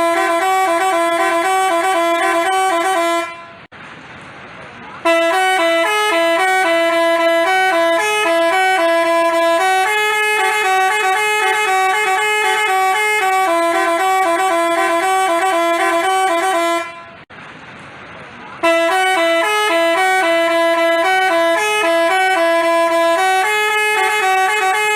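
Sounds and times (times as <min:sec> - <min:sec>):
multi-tone horn playing a tune: 0:00.0 - 0:03.7, 0:05.0 - 0:17.2, 0:18.6 - 0:24.9.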